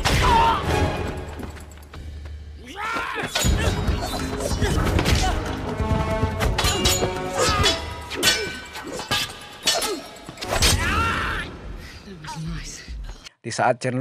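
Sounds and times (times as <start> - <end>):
orchestral action music: 0.0 - 1.9, 2.6 - 12.5.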